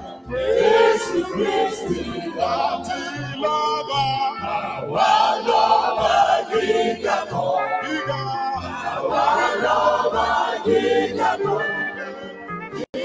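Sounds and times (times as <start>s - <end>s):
group singing worship song: 0.0s - 13.0s.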